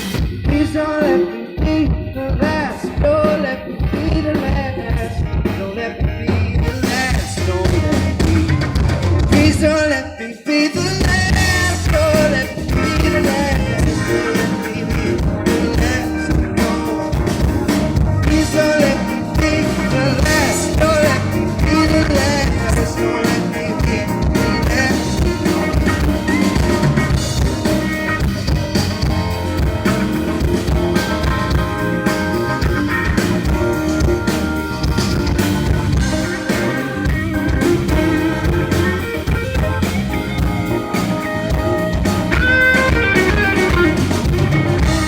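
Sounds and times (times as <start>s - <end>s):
drum kit steady beat: 0.0s - 9.8s, 10.7s - 45.0s
live band playing: 0.0s - 9.9s, 10.7s - 45.0s
electric guitar: 0.0s - 10.0s, 10.8s - 45.0s.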